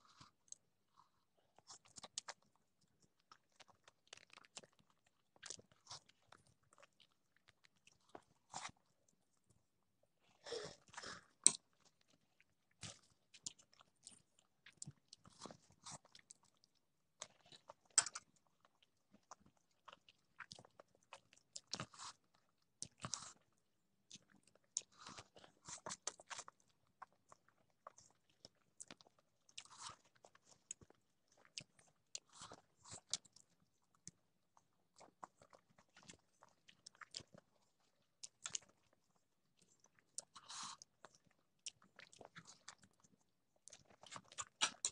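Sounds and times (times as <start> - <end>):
person chewing food: 0.0 - 9.4, 10.3 - 44.9.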